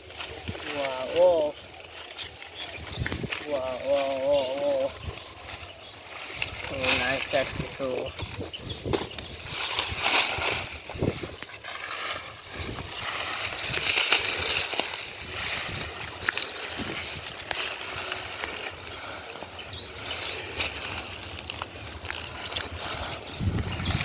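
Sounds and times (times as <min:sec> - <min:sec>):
muddy water sloshing by hand: 0:00.1 - 0:24.0.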